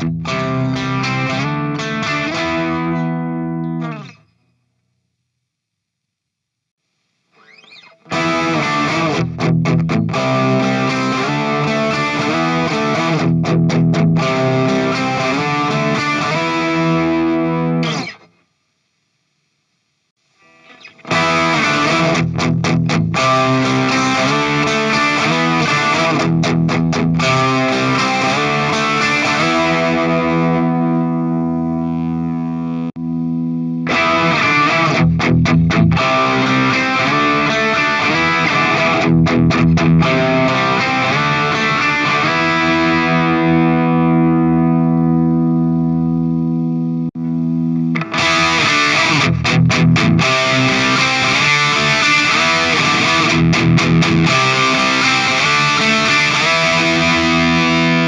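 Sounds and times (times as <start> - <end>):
distorted electric guitar: 0.0 - 4.6, 7.3 - 18.6, 20.2 - 58.0.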